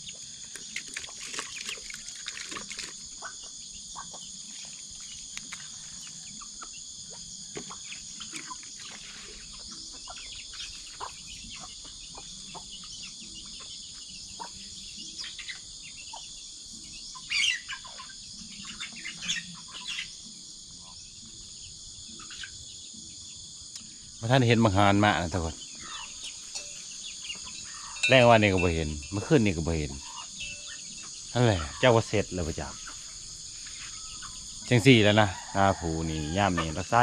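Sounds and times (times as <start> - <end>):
insect chorus: 0.0 - 37.0
bird chirps: 3.1 - 35.0.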